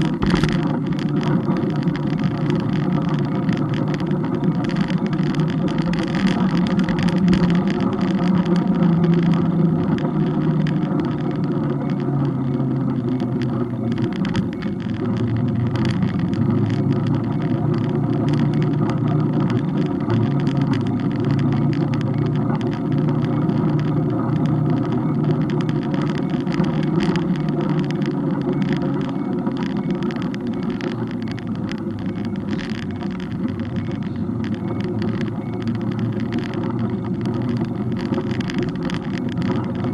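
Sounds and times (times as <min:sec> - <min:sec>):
engine running: 0:00.0 - 0:39.9
road and wind noise: 0:00.0 - 0:39.9.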